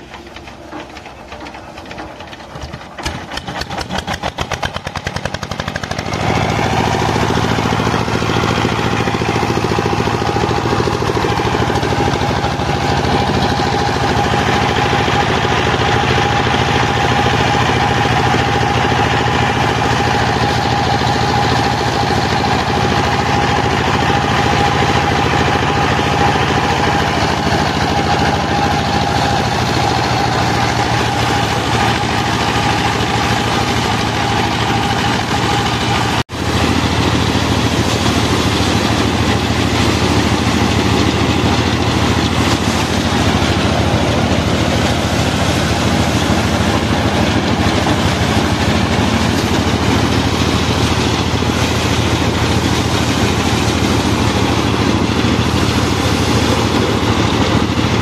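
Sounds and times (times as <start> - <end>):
diesel engine chugging: 0.0 - 58.0
threshing drum whining: 0.0 - 58.0.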